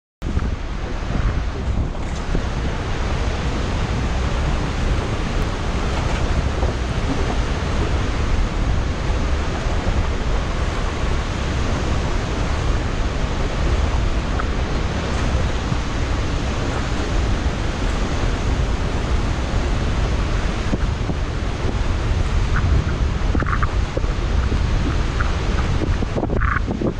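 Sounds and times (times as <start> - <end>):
waterfall roaring: 0.2 - 26.9
wind buffeting microphone: 0.2 - 26.9.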